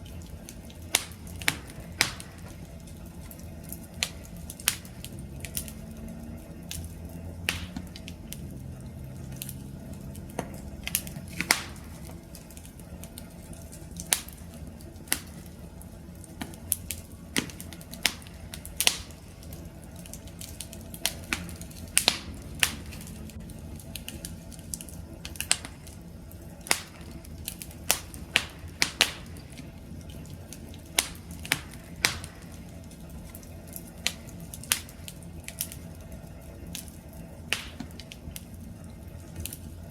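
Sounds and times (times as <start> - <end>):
burning wood crackles and pops: 0.0 - 39.9
fire flames rumbling: 0.0 - 39.9.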